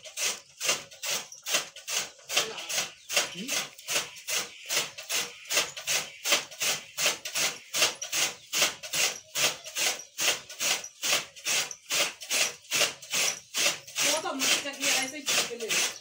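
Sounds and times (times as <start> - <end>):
chaff cutter chopping fodder: 0.0 - 16.0.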